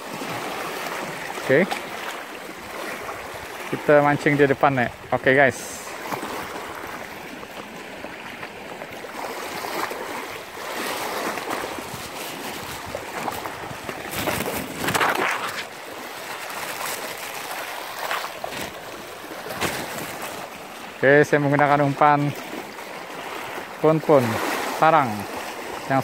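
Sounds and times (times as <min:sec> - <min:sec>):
waves splashing on rocky shore: 0:00.0 - 0:26.0.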